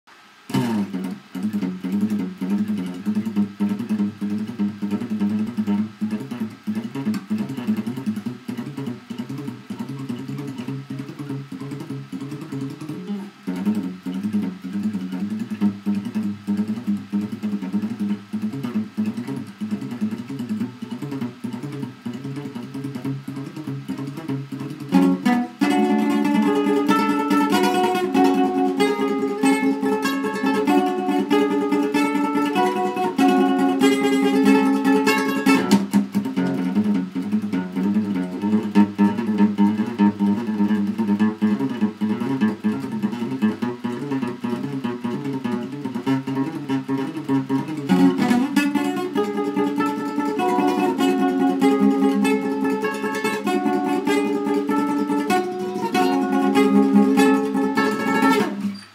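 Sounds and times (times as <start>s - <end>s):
classical guitar solo: 0.4s - 58.9s.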